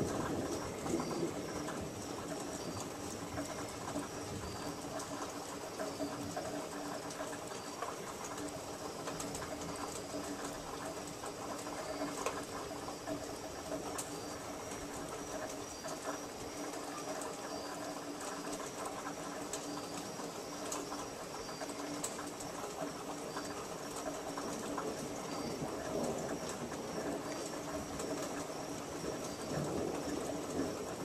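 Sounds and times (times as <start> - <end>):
light rain pattering and dripping: 0.0 - 31.0.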